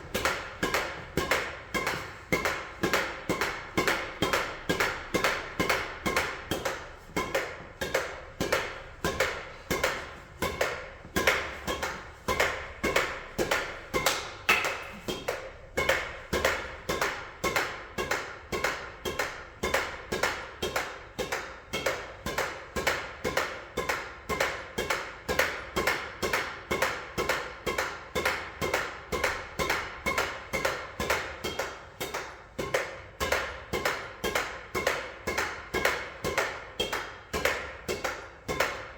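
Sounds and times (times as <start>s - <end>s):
table tennis ball pings: 0.2s - 38.9s.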